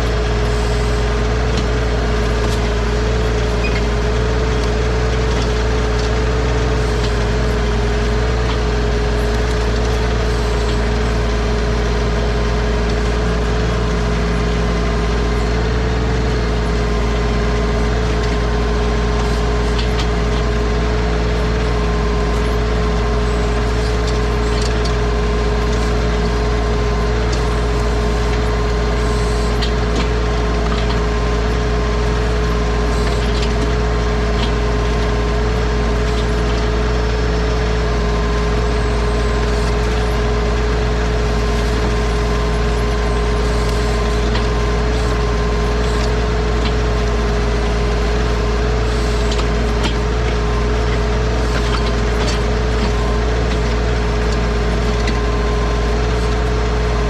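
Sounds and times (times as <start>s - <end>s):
constant whine: 0.0s - 57.0s
tractor diesel engine running: 0.0s - 57.0s.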